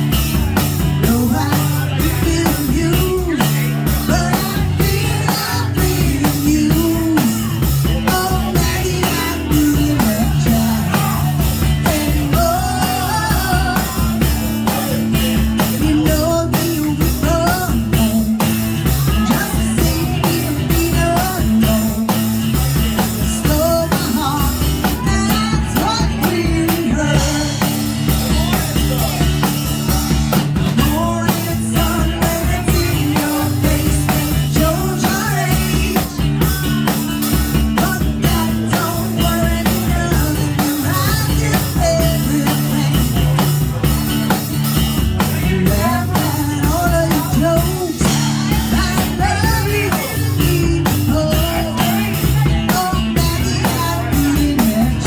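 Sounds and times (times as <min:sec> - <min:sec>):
rock music with singing: 0:00.0 - 0:55.0.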